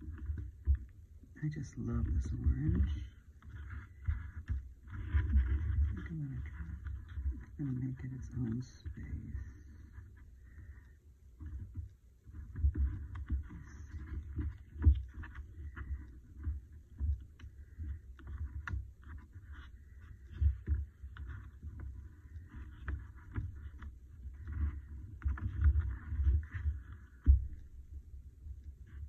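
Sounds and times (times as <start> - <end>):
hands pressing paper: 0.0 - 29.0.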